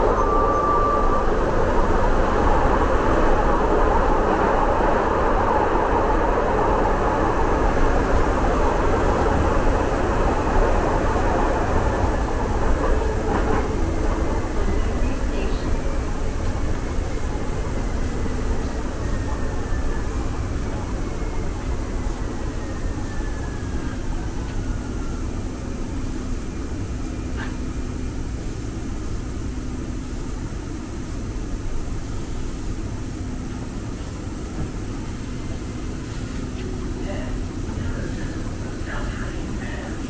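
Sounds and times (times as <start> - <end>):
train whine: 0.0 - 40.0
wheels rumbling on rail: 0.0 - 40.0.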